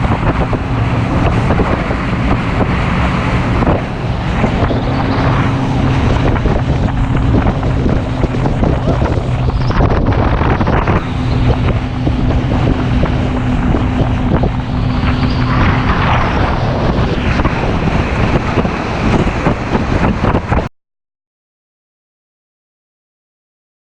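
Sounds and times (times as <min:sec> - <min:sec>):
hull rushing over water: 0:00.0 - 0:20.7
speedboat engine drone: 0:00.0 - 0:20.7
wind buffeting microphone: 0:00.0 - 0:20.7.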